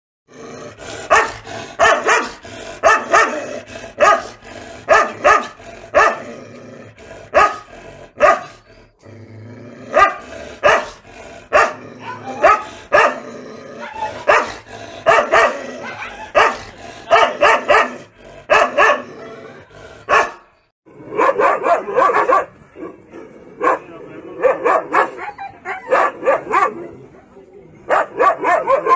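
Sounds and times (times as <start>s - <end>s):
dog barking: 1.0s - 6.2s, 7.3s - 8.6s, 9.9s - 13.2s, 13.8s - 20.5s, 21.1s - 27.0s, 27.8s - 28.9s.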